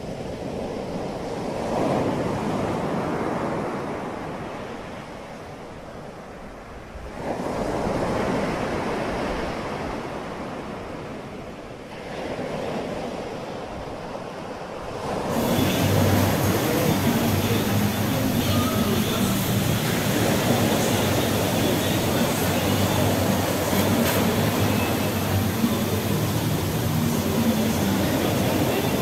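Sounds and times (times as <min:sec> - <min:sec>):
surf-like rushing noise: 0:00.0 - 0:29.0.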